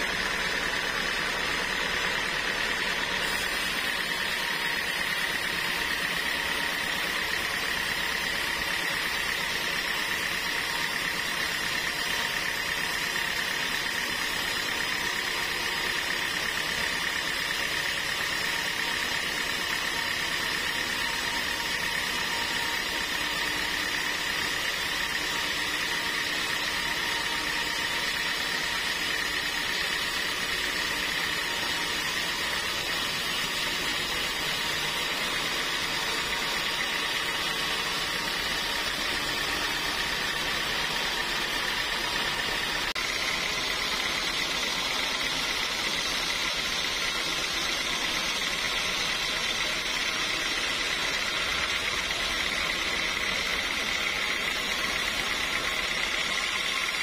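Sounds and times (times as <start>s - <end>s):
bandsaw mill whining: 0.0s - 57.0s.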